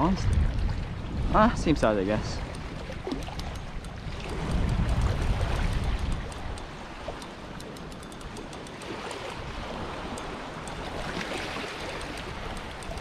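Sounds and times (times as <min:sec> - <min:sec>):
small waves lapping on rocks: 0:00.0 - 0:13.0
light ticks: 0:00.2 - 0:00.5, 0:01.8 - 0:13.0.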